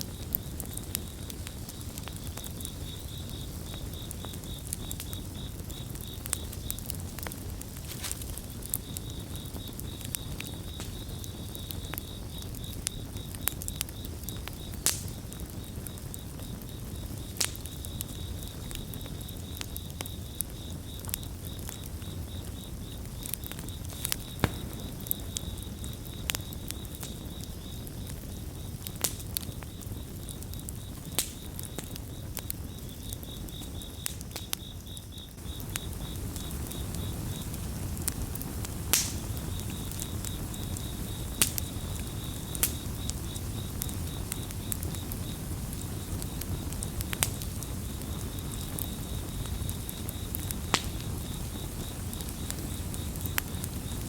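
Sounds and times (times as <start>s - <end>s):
campfire crackling and popping: 0.0s - 54.0s
cricket chirping trill: 0.0s - 54.0s.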